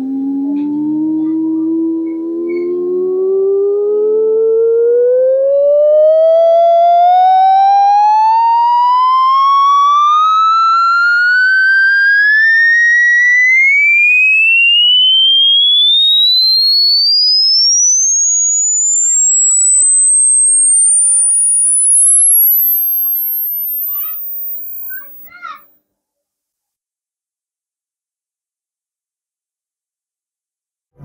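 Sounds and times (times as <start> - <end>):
electronic tone sweeping upward: 0.0 - 25.3.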